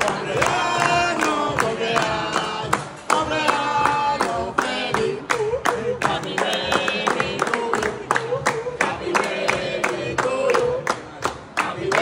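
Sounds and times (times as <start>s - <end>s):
group singing: 0.0s - 12.0s
hands clapping in a beat: 0.0s - 12.0s.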